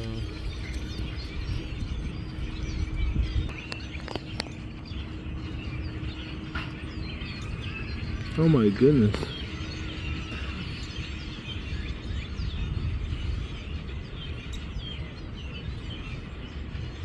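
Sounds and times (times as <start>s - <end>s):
flock of birds chirping: 0.0s - 17.0s
low rumble: 0.0s - 17.0s.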